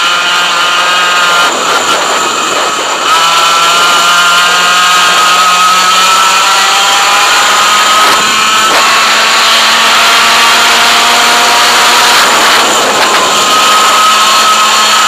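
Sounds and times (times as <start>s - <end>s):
kart engine revving: 0.0s - 15.0s.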